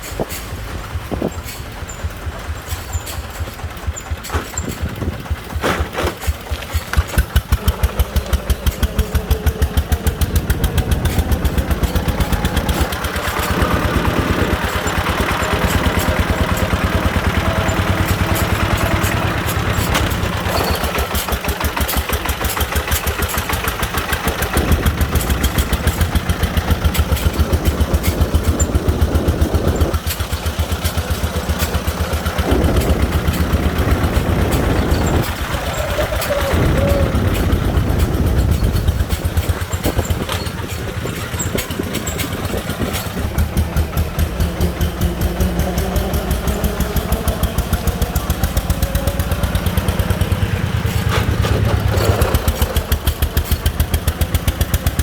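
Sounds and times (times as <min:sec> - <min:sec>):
diesel engine thudding: 0:00.0 - 0:55.0.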